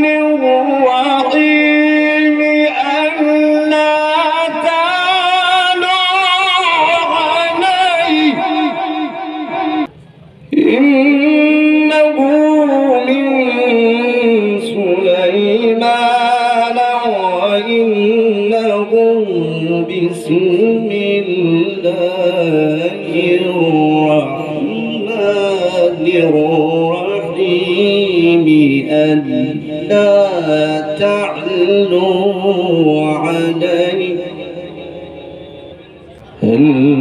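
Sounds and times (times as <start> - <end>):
man chanting through loudspeakers: 0.0 - 37.0.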